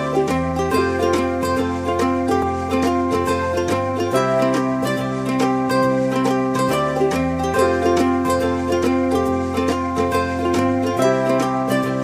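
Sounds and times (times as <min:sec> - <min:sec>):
bass line: 0:00.0 - 0:12.0
plucked string tune: 0:00.0 - 0:12.0.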